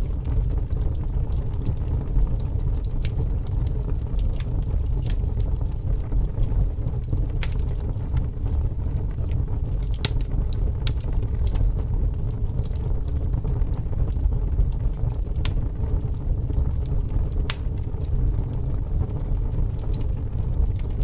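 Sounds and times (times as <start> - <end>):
fire crackling and rumbling: 0.0 - 21.0.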